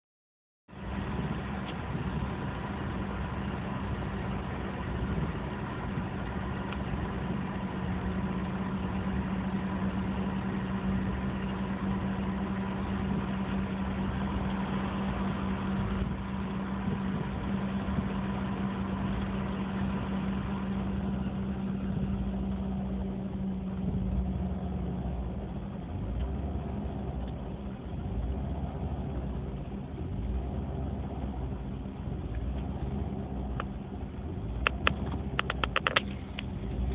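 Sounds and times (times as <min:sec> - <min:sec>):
car engine idling roughly: 0:00.8 - 0:36.9.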